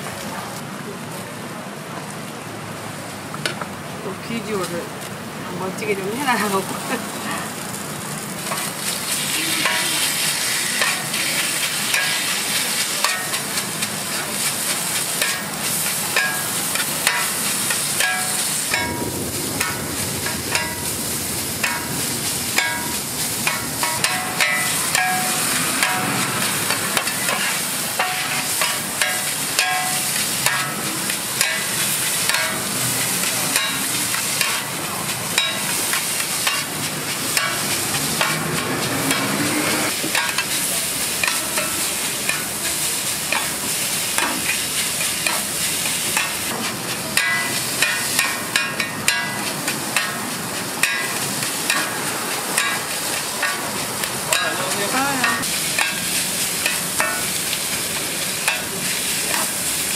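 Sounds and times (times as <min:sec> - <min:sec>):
rice sizzling on griddle: 0:00.0 - 0:59.9
metal scrapers clacking on griddle: 0:06.2 - 0:59.9.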